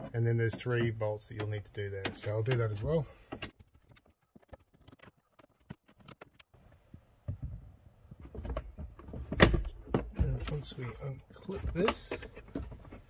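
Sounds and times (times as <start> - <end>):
dull handling bumps: 0.0 - 13.0.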